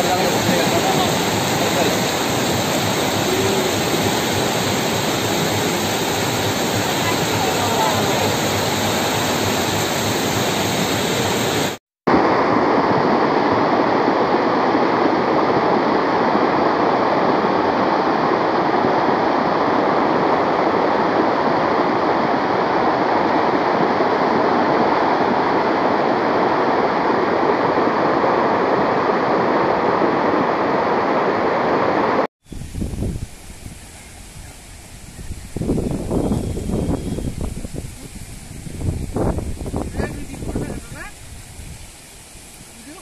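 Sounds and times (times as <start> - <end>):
floodwater rushing: 0.0 - 36.2, 36.8 - 43.0.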